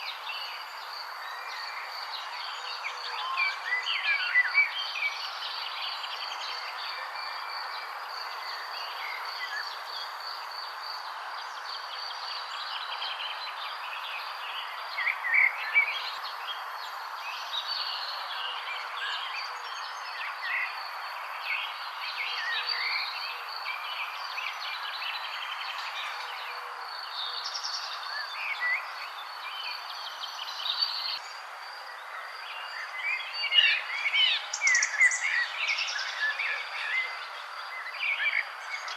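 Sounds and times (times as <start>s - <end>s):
background hiss: 0.0s - 38.9s
songbirds chirping: 0.0s - 38.9s.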